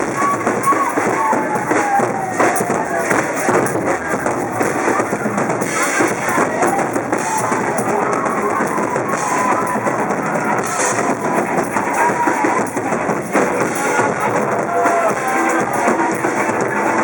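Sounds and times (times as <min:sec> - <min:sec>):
drum kit playing: 0:00.0 - 0:17.0
live band music: 0:00.0 - 0:17.0.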